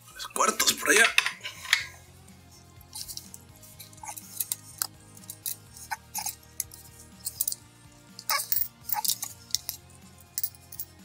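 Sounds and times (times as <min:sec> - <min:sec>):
spanners clicking and scraping: 0:00.4 - 0:02.0, 0:02.8 - 0:11.0.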